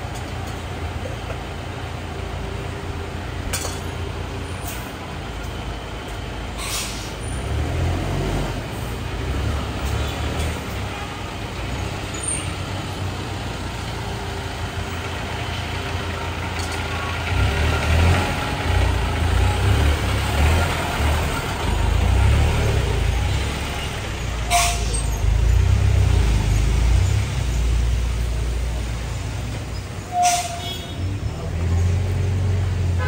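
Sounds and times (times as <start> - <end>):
rumble of vehicles: 0.0 - 33.0.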